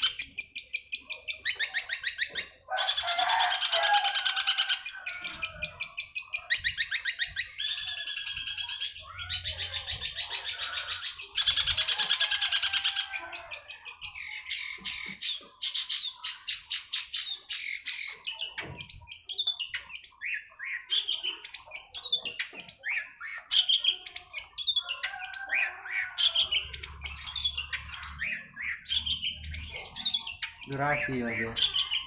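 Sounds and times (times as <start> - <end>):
bird singing varied song: 0.0 - 32.0.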